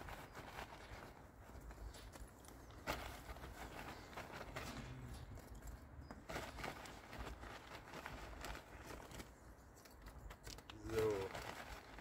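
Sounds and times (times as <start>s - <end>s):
scuffs in soil and dry leaves: 0.0s - 12.0s.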